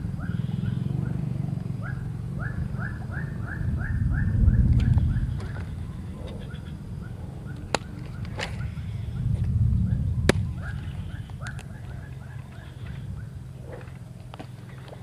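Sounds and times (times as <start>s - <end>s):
birds chirping faintly: 0.0s - 15.0s
steady low rumble: 0.0s - 15.0s.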